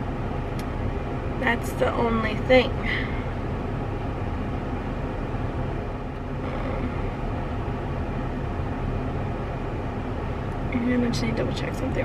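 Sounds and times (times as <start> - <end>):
car air conditioning blowing: 0.0 - 12.0.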